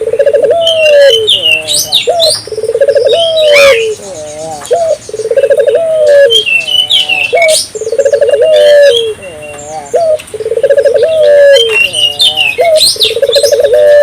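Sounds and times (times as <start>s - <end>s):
dove cooing: 0.0s - 14.0s
small birds chirping: 0.0s - 14.0s.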